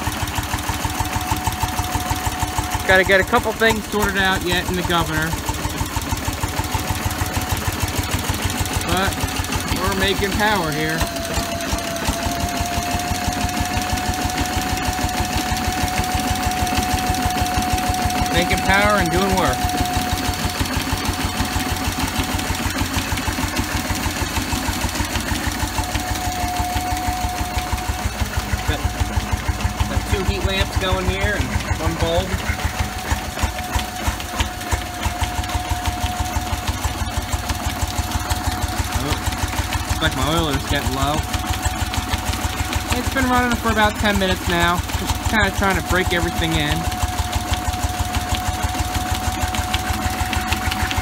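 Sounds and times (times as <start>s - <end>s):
stationary engine puffing: 0.0s - 51.0s.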